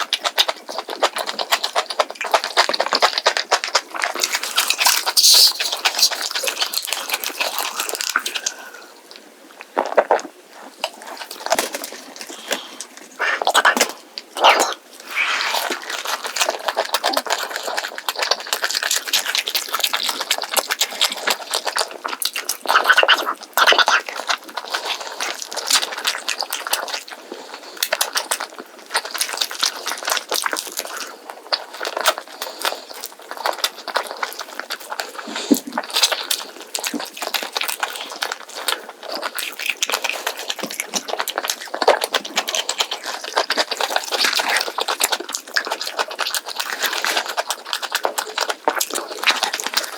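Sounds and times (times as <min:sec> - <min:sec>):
wet chewing and crunching: 0:00.0 - 0:49.9.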